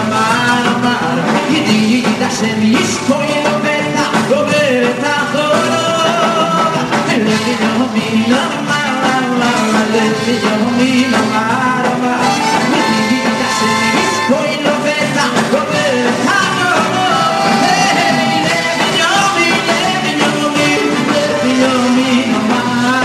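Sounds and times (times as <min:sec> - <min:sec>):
live pop band: 0:00.0 - 0:23.0
man singing lead: 0:00.0 - 0:23.0.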